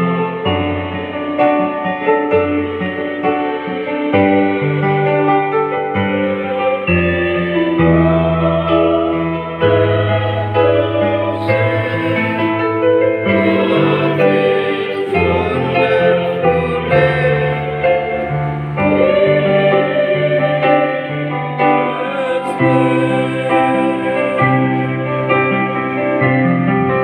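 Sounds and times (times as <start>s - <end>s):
church choir singing: 0.0s - 27.0s.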